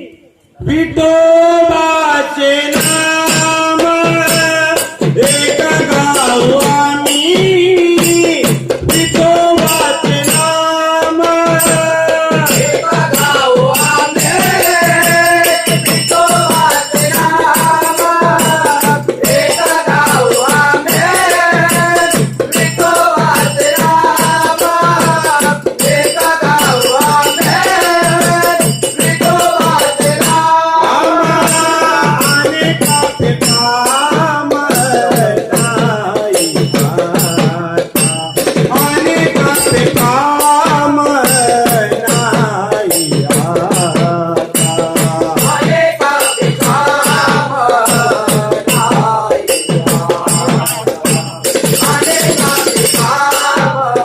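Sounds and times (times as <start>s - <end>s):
group singing in unison: 0.6s - 54.0s
fast jingling percussion: 2.6s - 54.0s.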